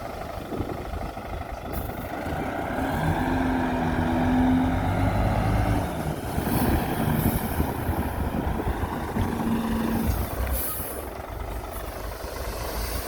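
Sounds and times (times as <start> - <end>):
diesel machinery engine rumbling: 0.0 - 13.0.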